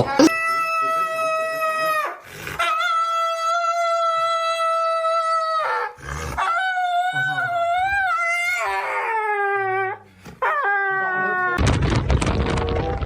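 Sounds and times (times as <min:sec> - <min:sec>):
dog howling: 0:00.2 - 0:11.6.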